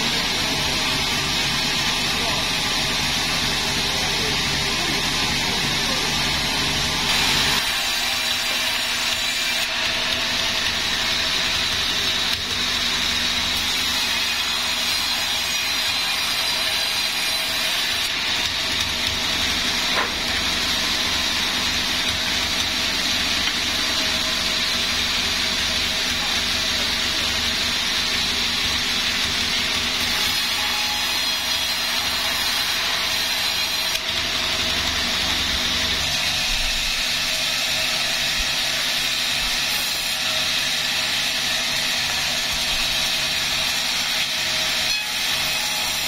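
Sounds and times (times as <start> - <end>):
sawmill saw whining: 0.0 - 46.0.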